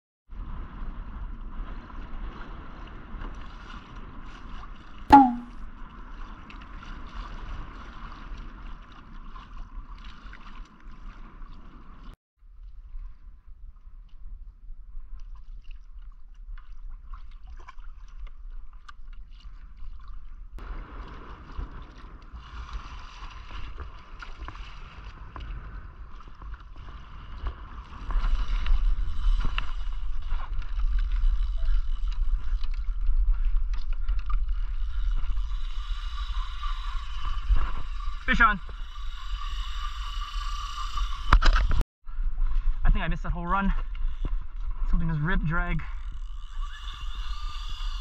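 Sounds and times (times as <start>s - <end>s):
water splashing along kayak hull: 0.3s - 42.8s, 43.8s - 45.3s
wind rumbling on microphone: 0.3s - 48.0s.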